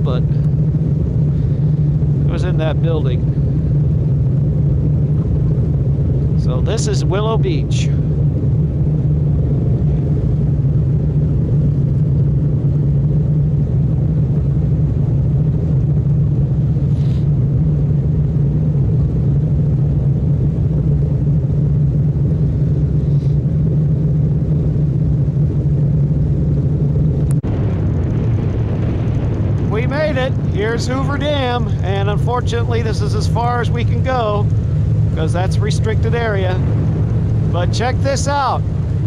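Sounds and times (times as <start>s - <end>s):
motorboat engine droning: 0.0s - 39.0s
wind: 0.0s - 39.0s.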